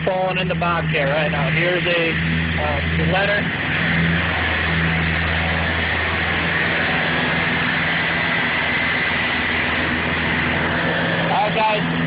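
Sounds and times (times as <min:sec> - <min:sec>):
diesel engine running: 0:00.0 - 0:12.0
thin steady whine: 0:00.0 - 0:12.0.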